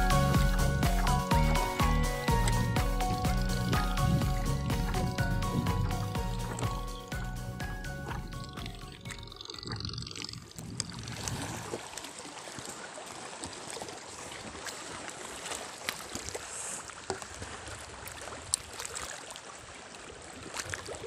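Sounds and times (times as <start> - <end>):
water lapping against boat: 0.0 - 21.0.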